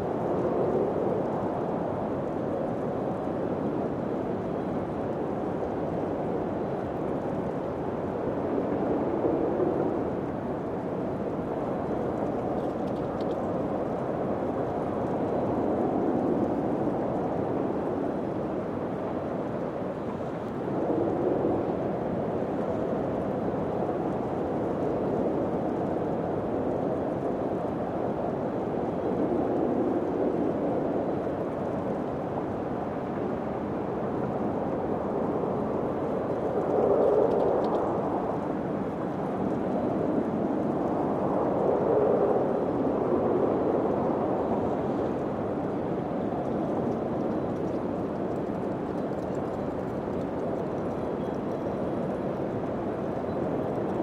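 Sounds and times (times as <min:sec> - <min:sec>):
wind blowing: 0:00.0 - 0:54.0.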